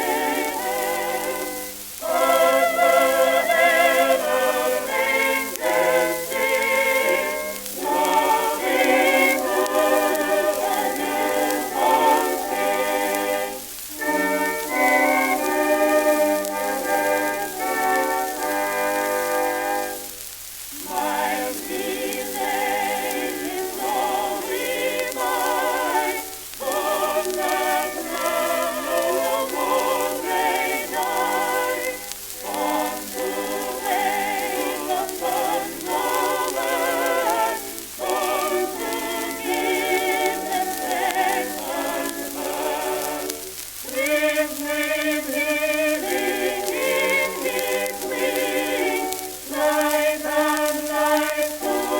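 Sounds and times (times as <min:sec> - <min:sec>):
choir singing with vibrato: 0:00.0 - 0:51.9
record surface hiss and crackle: 0:00.0 - 0:51.9.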